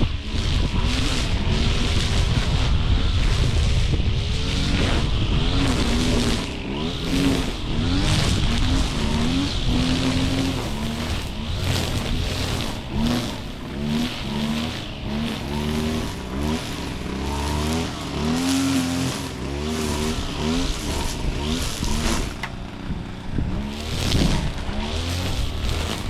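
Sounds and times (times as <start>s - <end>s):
small petrol engine revving: 0.0s - 26.0s.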